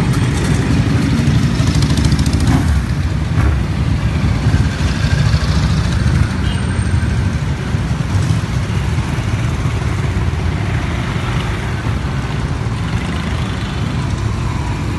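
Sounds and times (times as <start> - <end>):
motorcycles riding past: 0.0 - 14.9.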